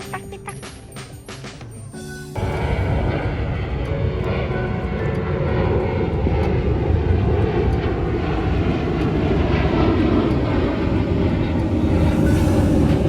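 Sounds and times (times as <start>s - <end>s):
jet engine roar overhead: 2.1s - 13.0s.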